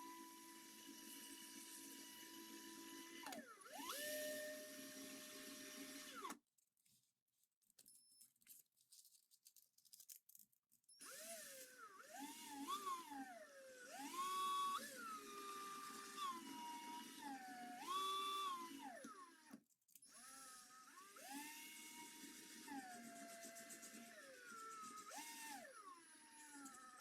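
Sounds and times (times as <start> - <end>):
small power tool motor whining: 0.0 - 6.4, 11.0 - 27.0.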